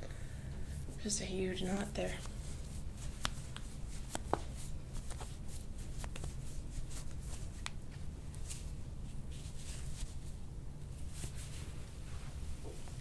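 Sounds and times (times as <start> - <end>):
low steady hum: 0.0 - 13.0
hands rustling on skin and clothing: 0.6 - 13.0.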